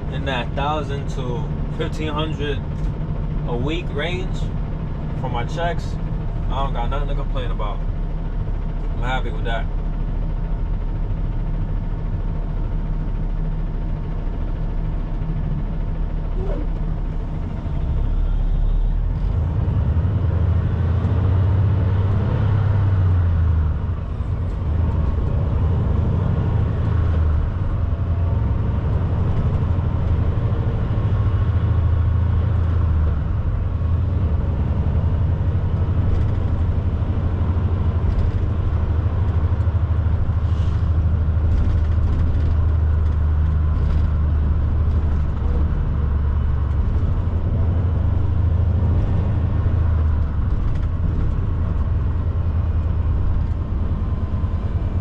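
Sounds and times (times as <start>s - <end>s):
truck engine and road noise: 0.0s - 55.0s.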